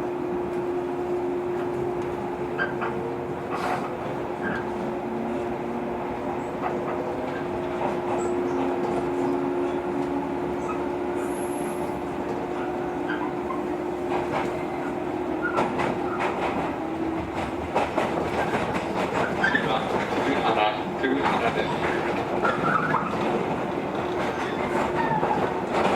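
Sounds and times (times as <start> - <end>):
electric train hum: 0.0 - 25.9.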